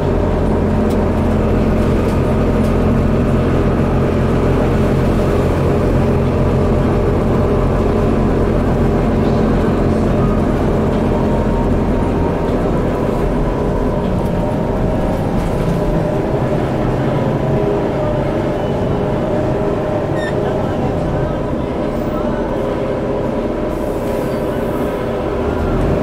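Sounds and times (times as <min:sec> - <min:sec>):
bus diesel engine running: 0:00.0 - 0:26.0
road noise: 0:00.0 - 0:26.0.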